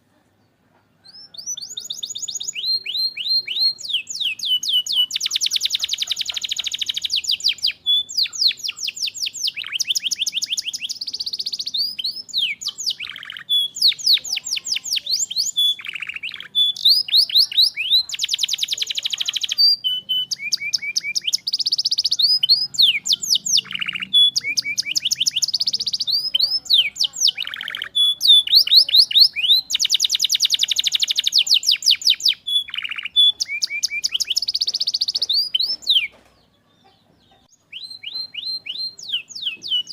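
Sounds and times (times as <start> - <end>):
canary singing trills: 0.5 - 39.9.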